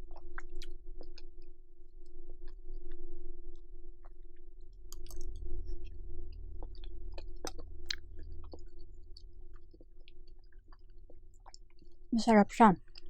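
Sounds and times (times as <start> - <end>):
close chewing food: 0.0 - 1.5, 2.3 - 12.1
steady low hum: 0.0 - 13.0.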